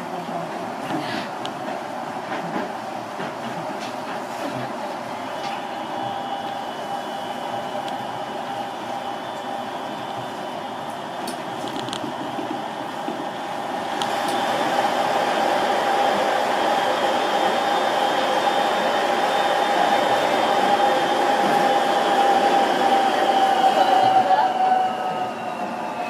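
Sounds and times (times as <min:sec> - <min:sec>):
train tyres rushing with whine: 0:00.5 - 0:26.0.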